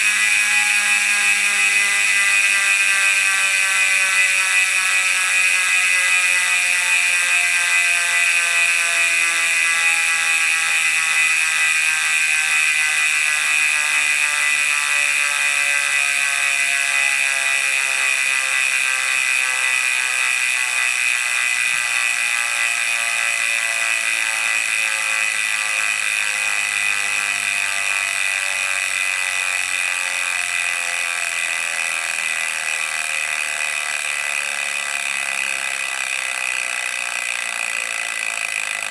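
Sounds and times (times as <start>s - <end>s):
bicycle freehub buzzing: 0.0s - 38.9s.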